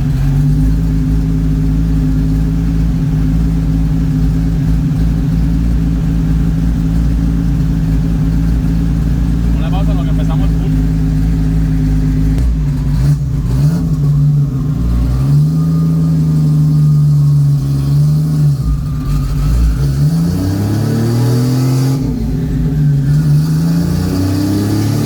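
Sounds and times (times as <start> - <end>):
car engine on a dyno: 0.0 - 25.0.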